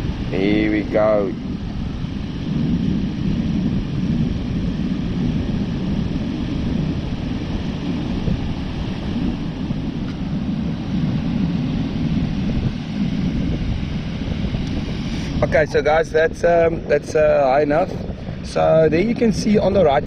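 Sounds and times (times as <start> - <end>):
surf breaking on beach: 0.0 - 20.0
wind buffeting microphone: 0.0 - 20.0.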